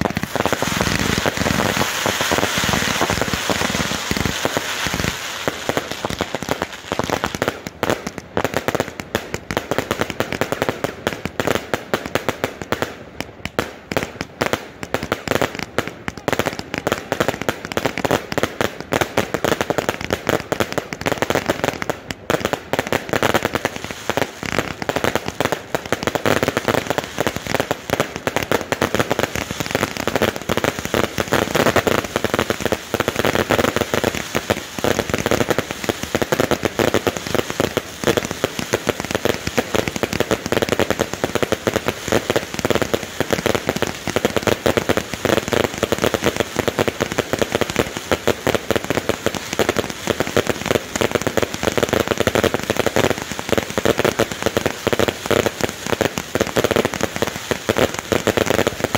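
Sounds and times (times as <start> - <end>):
firework cakes crackling: 0.0 - 58.9.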